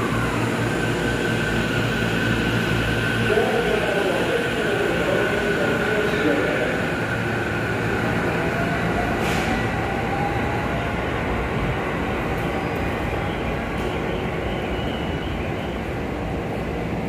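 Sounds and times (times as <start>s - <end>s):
train wheel and rail rumble: 0.0s - 17.0s.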